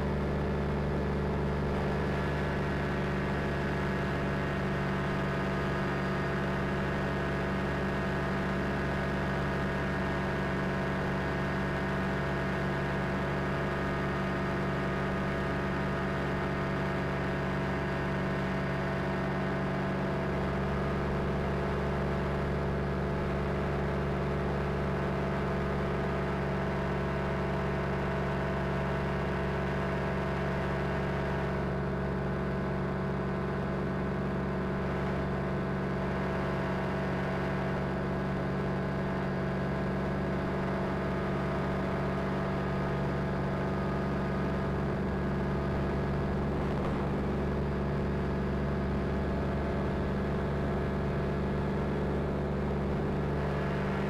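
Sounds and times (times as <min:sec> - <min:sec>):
aircraft engine and propeller droning: 0:00.0 - 0:54.0.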